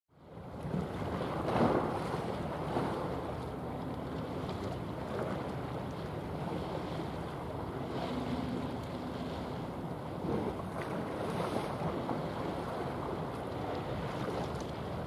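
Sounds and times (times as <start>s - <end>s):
choppy sea: 0.1s - 15.0s.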